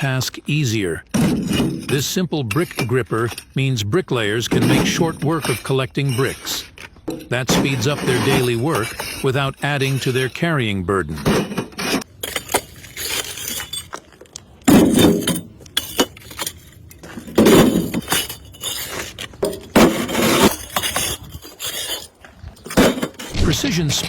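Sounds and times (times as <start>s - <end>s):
bricks clinking and clattering: 1.0s - 24.0s.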